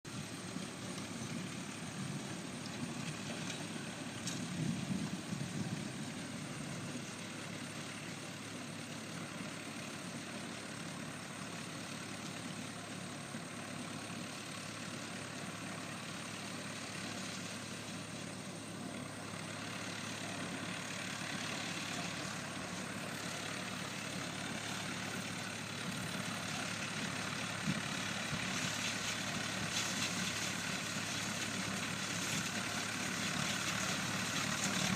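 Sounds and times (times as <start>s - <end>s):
baler mechanical rumble: 0.1s - 34.9s.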